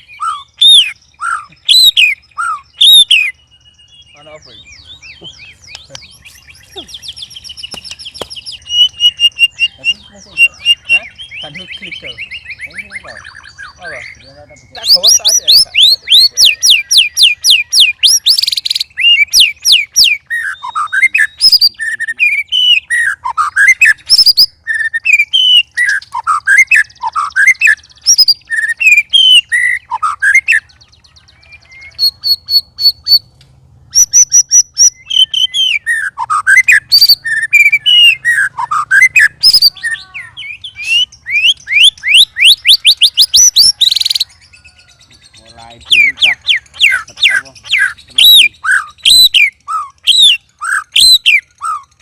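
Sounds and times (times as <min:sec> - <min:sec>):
bird singing whistles and trills: 0:00.0 - 0:33.3, 0:33.9 - 0:52.0.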